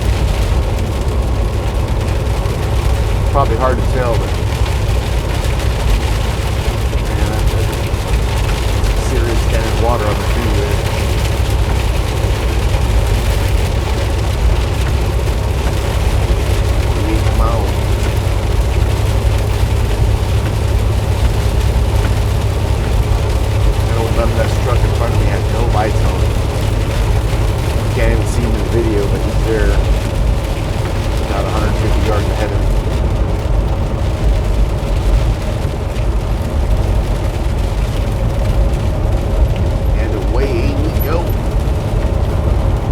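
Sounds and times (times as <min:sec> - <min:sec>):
heavy rain hissing: 0:00.0 - 0:42.9
truck engine and tyres droning: 0:00.0 - 0:42.9.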